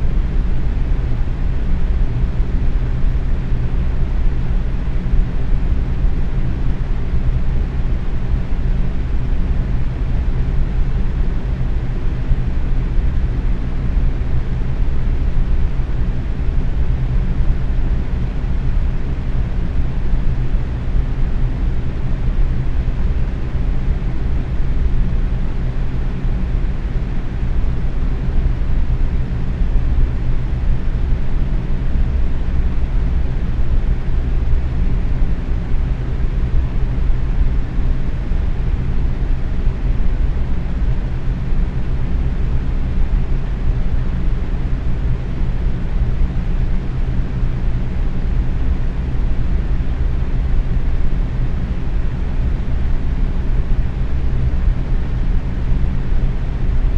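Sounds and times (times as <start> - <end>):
box fan rushing air: 0.0 - 56.9
faint fan hum: 0.0 - 56.9.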